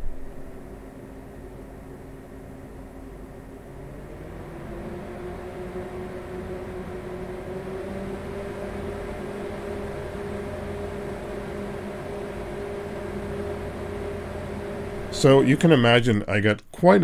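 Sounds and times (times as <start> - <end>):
computer fans whirring loudly: 0.0 - 17.0.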